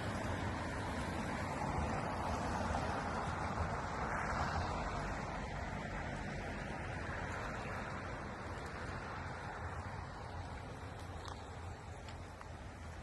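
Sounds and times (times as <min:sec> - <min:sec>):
river water rushing: 0:00.0 - 0:13.0
wind rumble on microphone: 0:00.0 - 0:13.0.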